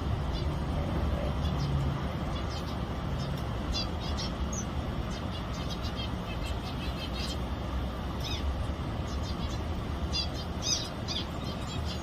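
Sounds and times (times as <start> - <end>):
finches chirping: 0.2 - 7.6, 8.2 - 12.0.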